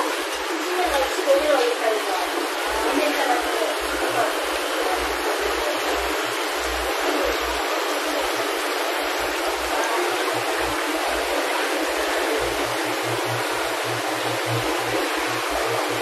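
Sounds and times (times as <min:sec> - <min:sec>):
water running into tray: 0:00.0 - 0:16.0.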